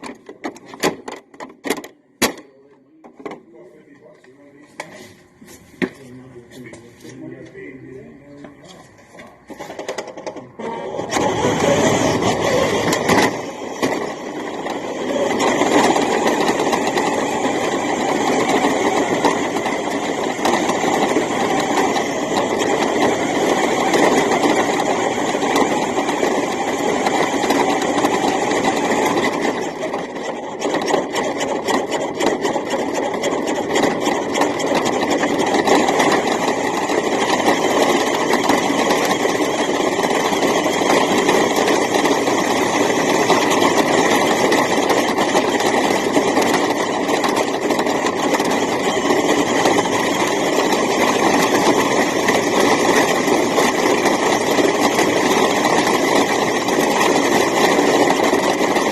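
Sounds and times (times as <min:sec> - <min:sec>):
toy truck motor whirring: 0:09.5 - 0:58.9.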